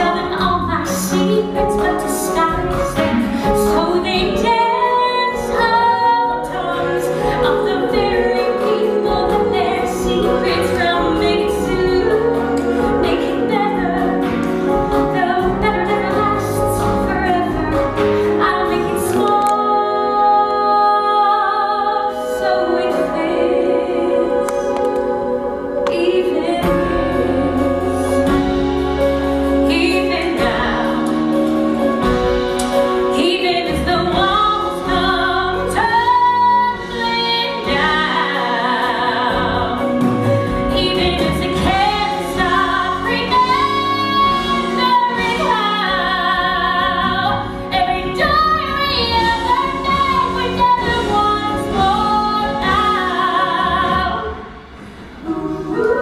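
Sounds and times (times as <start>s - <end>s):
woman singing a ballad: 0.0s - 28.6s, 29.5s - 31.4s, 33.0s - 54.5s, 55.2s - 56.0s
orchestral accompaniment: 0.0s - 56.0s.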